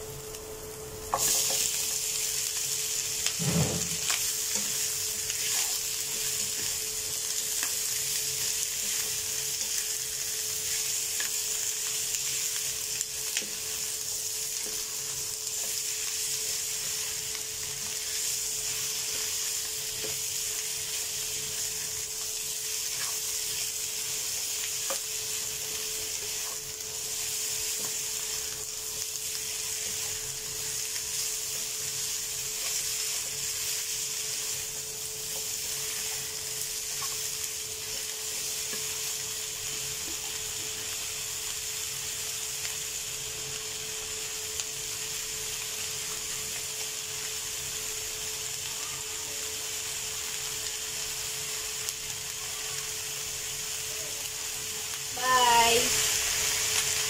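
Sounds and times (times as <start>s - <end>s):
meat sizzling in a pan: 0.0s - 57.0s.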